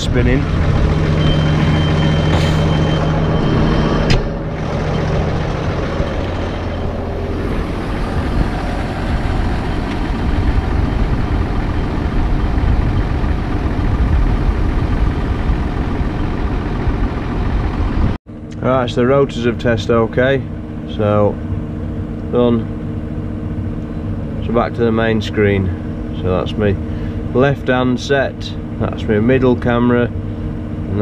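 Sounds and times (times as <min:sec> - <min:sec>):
tractor engine and machinery rumble: 0:00.0 - 0:31.0.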